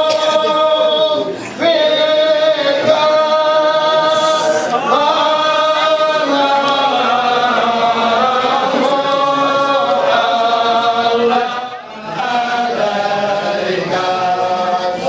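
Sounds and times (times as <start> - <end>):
congregation chanting: 0.0 - 15.0.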